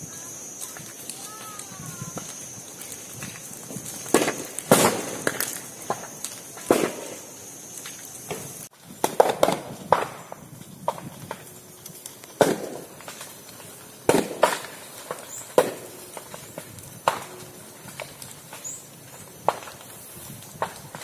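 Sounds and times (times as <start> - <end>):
bamboo stems bursting with bangs: 0.4 - 11.4, 12.3 - 13.3, 14.0 - 21.0.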